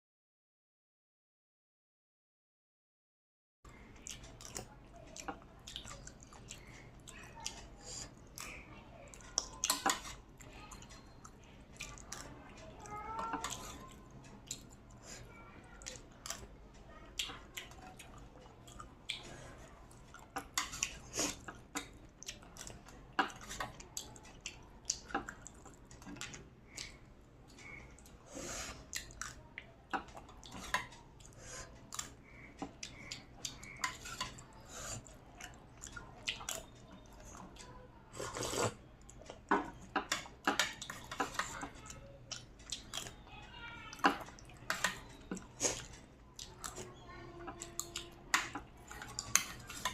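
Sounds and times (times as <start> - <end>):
wet chewing: 3.7 - 15.1, 15.8 - 43.3, 43.9 - 49.9.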